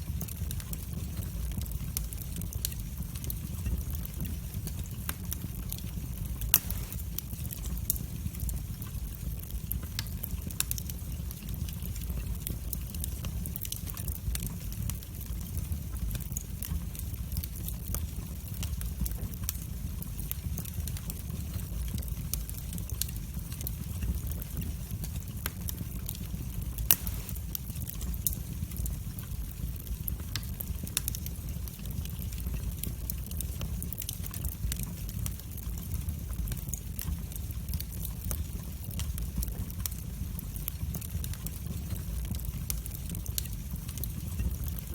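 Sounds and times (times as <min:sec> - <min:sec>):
burning wood crackling and popping: 0:00.0 - 0:44.9
fire rumbling: 0:00.0 - 0:44.9.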